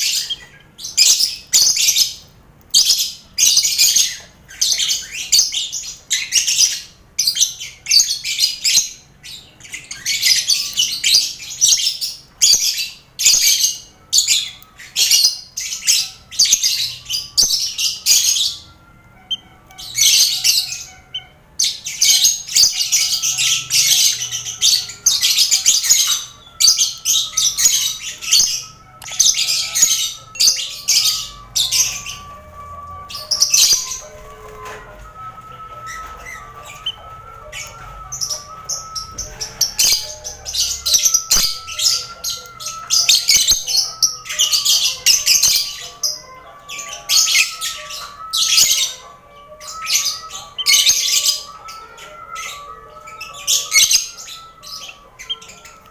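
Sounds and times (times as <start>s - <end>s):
lovebirds chattering: 0.0s - 55.9s.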